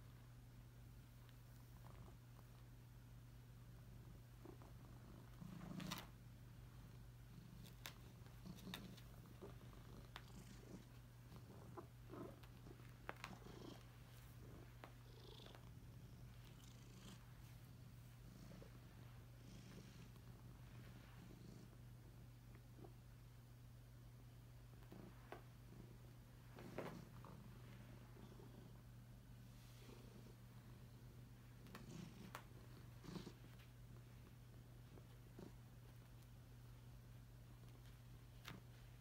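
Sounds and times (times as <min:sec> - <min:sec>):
cat purring: 0:00.9 - 0:23.7, 0:24.6 - 0:39.0
soft rustles on carpet: 0:03.6 - 0:23.0, 0:24.6 - 0:39.0.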